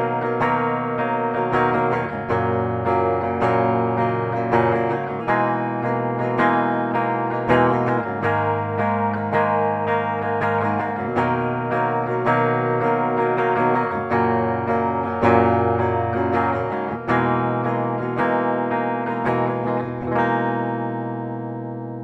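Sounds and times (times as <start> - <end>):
clean electric guitar chords and notes: 0.0 - 22.0.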